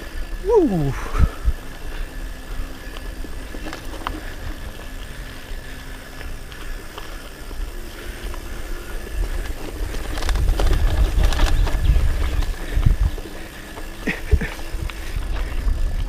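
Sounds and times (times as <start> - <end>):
wind rumble on microphone: 0.0 - 4.9, 7.4 - 16.0
bike rattling over bumps: 0.0 - 16.0.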